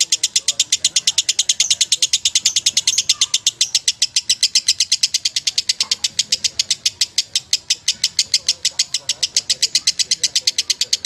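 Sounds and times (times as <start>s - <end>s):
lovebird chattering chirps: 0.0s - 11.0s.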